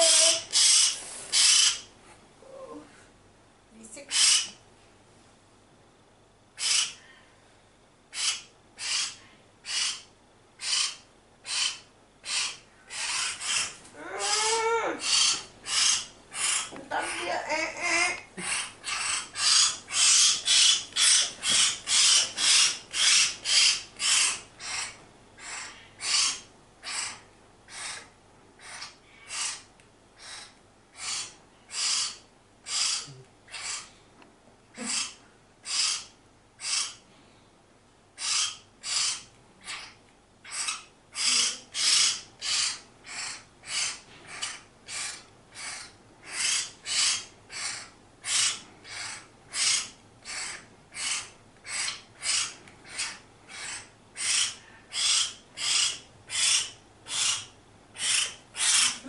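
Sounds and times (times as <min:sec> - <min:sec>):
bird chick harsh hissy calls: 0:00.0 - 0:01.9, 0:06.6 - 0:07.0, 0:08.1 - 0:17.4, 0:18.4 - 0:33.9, 0:34.8 - 0:37.0, 0:38.2 - 0:59.0.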